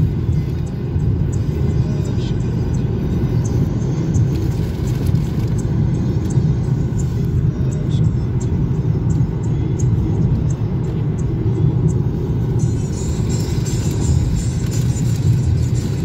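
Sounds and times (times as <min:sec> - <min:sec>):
vehicle road and engine rumble: 0:00.0 - 0:16.0.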